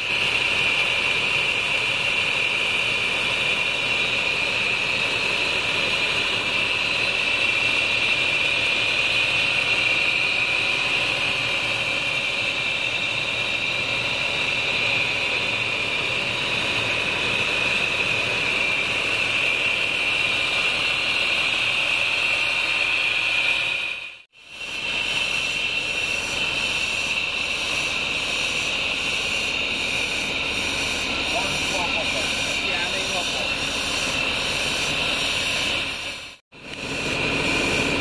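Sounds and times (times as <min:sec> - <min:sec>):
diesel engine running: 0:00.0 - 0:38.0
high-pitched whine: 0:00.0 - 0:38.0.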